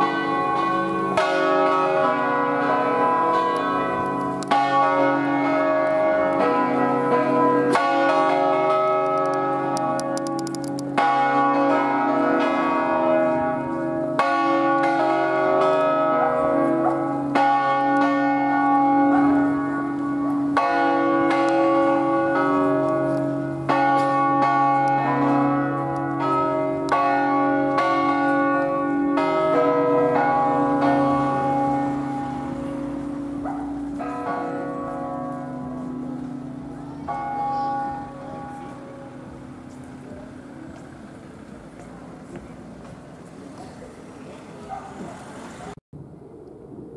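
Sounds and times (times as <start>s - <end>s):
church bells ringing: 0.0s - 45.8s.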